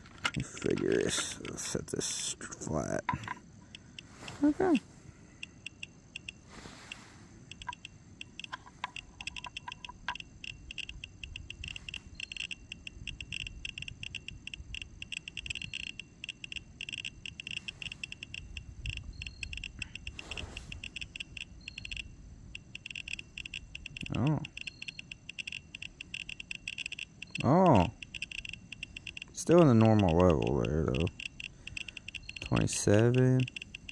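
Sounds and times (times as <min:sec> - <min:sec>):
geiger counter clicking: 0:00.0 - 0:01.8, 0:02.8 - 0:04.8, 0:05.4 - 0:33.9.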